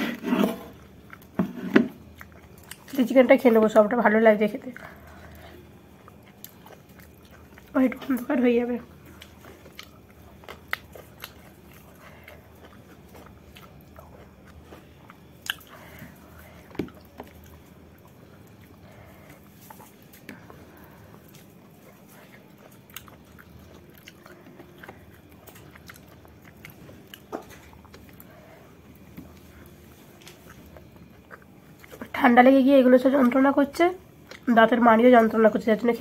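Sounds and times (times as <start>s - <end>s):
woman chewing food: 0.0s - 3.8s, 4.5s - 32.2s, 33.2s - 34.6s.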